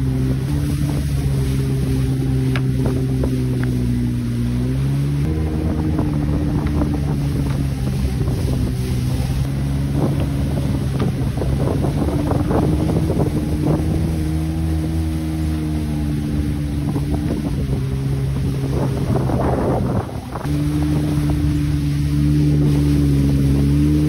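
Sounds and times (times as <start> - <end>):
jet ski engine running: 0.0 - 24.0
water splashing and spraying: 0.0 - 24.0
wind on microphone: 0.0 - 24.0.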